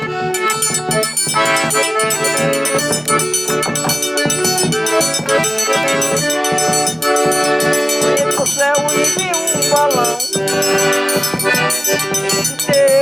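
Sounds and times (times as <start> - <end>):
accordion melody: 0.0 - 13.0
percussion beat: 0.0 - 13.0.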